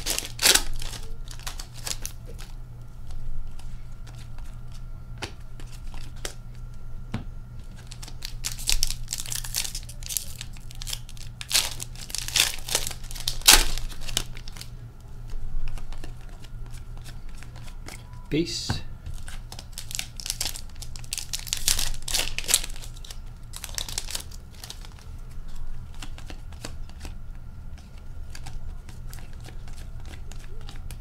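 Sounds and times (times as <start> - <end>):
card pack wrappers crinkling and tearing: 0.0 - 4.6, 7.6 - 14.8, 15.6 - 18.0, 19.1 - 31.0
low steady hum: 0.0 - 31.0.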